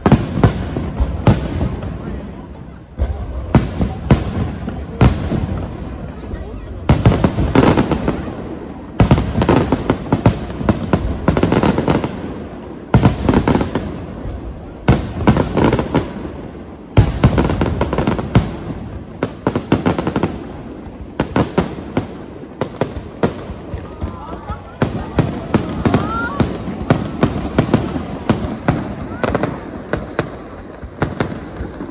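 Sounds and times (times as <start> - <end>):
sharp firework pops: 0.0 - 31.9.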